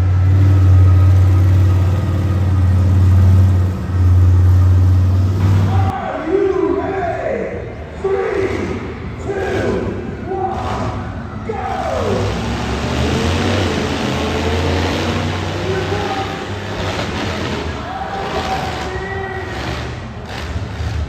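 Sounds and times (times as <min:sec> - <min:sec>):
truck engine running hard: 0:00.0 - 0:06.0, 0:08.8 - 0:21.0
crowd voices and shouts: 0:00.8 - 0:14.0, 0:14.8 - 0:21.0.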